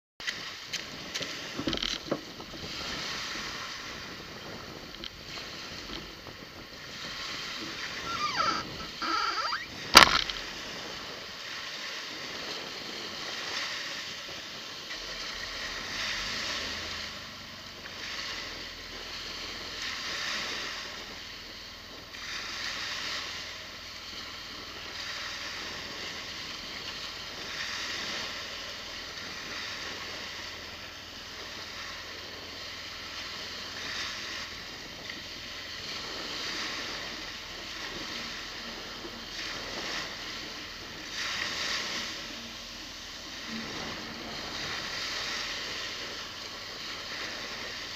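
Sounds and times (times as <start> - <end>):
small waves breaking on a beach: 0.2 - 47.9.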